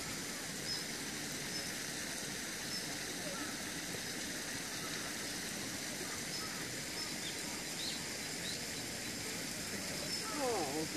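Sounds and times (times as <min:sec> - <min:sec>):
outdoor background hiss: 0:00.0 - 0:10.9.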